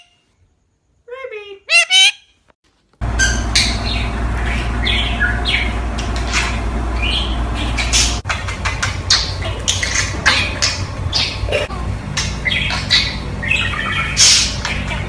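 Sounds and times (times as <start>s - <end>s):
parrots chirping and squawking: 1.7s - 2.4s, 3.0s - 15.0s
steady low hum: 2.8s - 15.0s.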